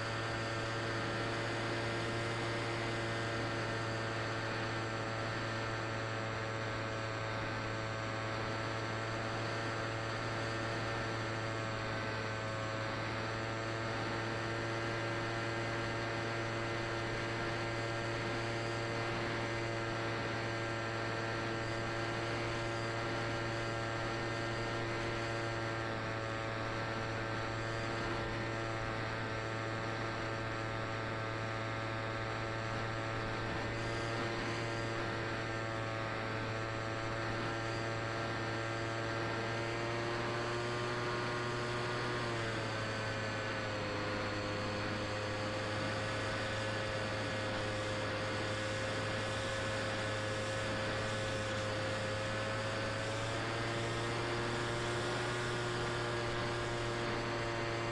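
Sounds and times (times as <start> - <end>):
low buzzing hum: 0.0 - 57.9.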